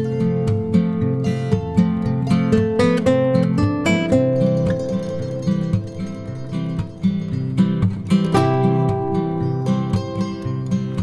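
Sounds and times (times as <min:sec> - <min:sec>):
acoustic guitar plucking and strumming: 0:00.0 - 0:11.0.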